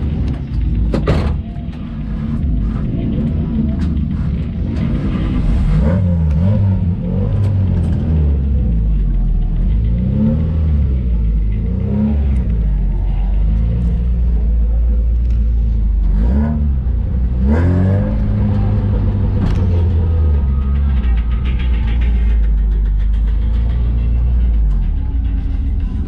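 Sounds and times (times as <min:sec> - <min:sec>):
jeep engine revving: 0:02.2 - 0:26.0.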